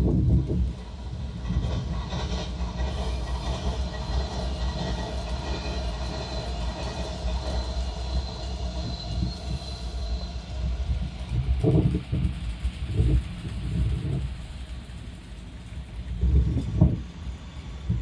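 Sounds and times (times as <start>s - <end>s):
model train rumbling on track: 0.0s - 18.0s.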